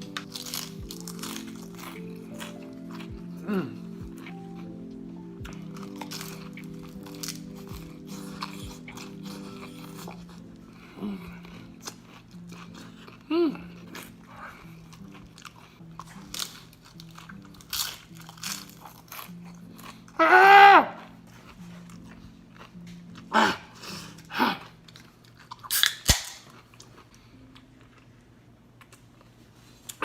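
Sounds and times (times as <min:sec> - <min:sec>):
person chewing crunchy food: 0:00.0 - 0:30.0
quiet background music: 0:00.0 - 0:30.0.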